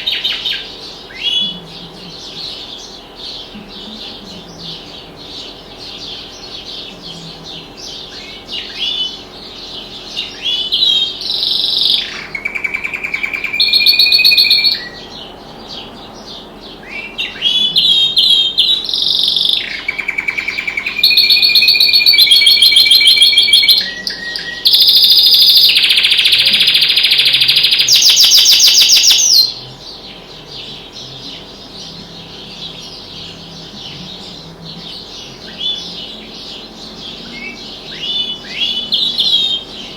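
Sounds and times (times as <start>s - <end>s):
canary singing trills: 0.0s - 39.9s
faint bird chirps: 0.0s - 39.9s.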